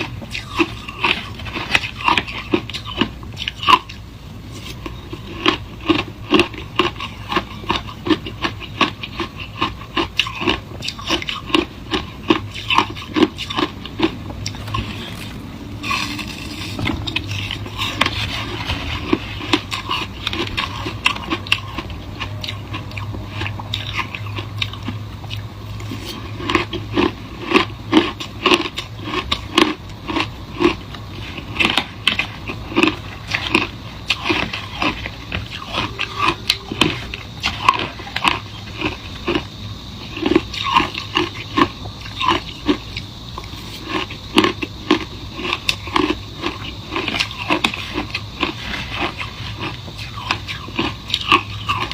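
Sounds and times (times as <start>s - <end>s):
crunchy ice biting and chewing: 0.0s - 51.9s.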